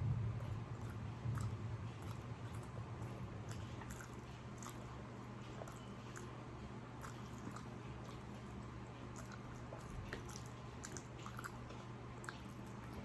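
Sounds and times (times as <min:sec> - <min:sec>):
steady low hum: 0:00.0 - 0:13.0
person chewing: 0:00.8 - 0:06.4, 0:07.0 - 0:13.0.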